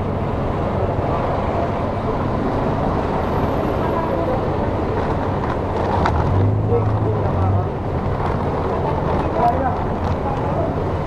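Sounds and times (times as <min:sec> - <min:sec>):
engines idling: 0:00.0 - 0:11.0
people's voices: 0:00.0 - 0:11.0
traffic: 0:00.0 - 0:11.0.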